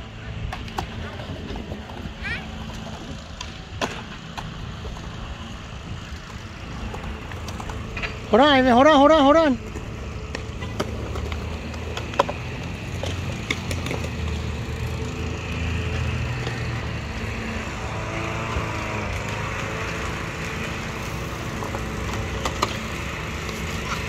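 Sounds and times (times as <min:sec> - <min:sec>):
low outdoor rumble: 0:00.0 - 0:24.0
kick scooter bumping on concrete: 0:00.5 - 0:08.3, 0:09.6 - 0:17.7, 0:19.2 - 0:24.0.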